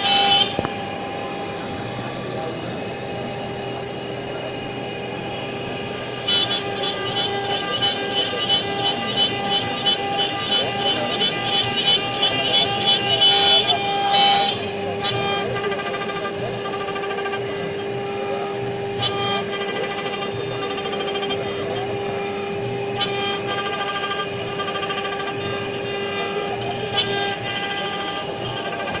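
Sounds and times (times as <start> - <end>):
stepper motors whirring: 0.0 - 29.0
wood router spindle whine: 0.0 - 29.0.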